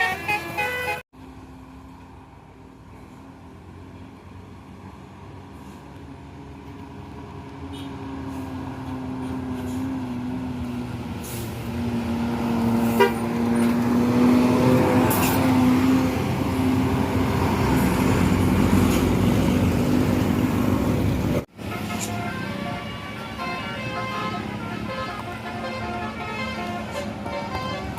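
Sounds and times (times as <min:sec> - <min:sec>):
road noise: 0:00.0 - 0:27.9
bus engine drone passing: 0:01.2 - 0:27.9.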